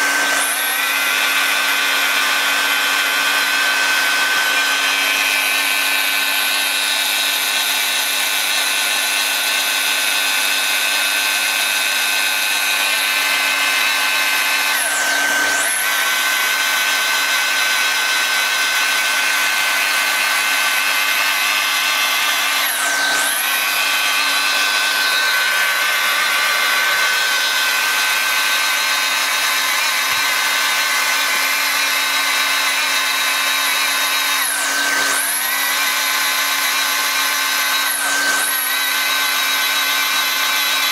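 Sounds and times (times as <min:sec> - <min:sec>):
hot-air blower rushing: 0:00.0 - 0:40.9
welder motor whine: 0:00.0 - 0:40.9.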